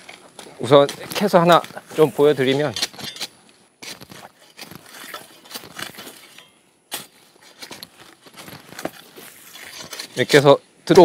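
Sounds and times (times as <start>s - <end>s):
digging fork scraping in soil: 0.0s - 11.0s.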